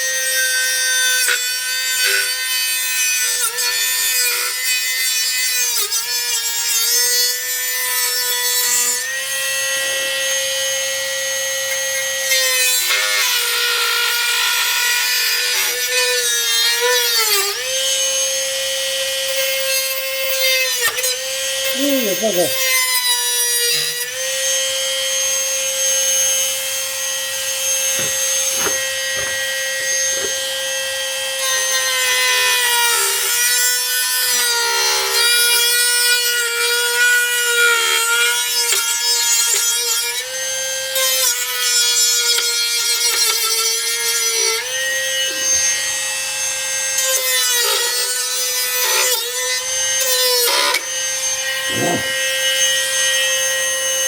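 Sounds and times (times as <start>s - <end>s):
power tool cutting fiberglass: 0.0s - 54.0s.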